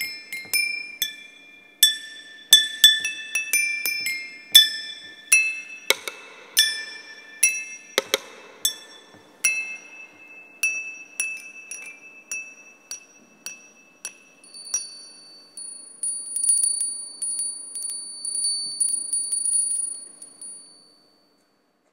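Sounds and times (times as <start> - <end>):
glassware struck ringing: 0.0 - 21.2.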